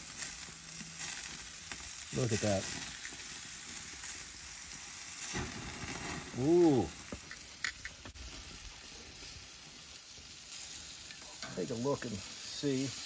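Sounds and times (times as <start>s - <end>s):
chicken sizzling on grill: 0.0s - 13.0s.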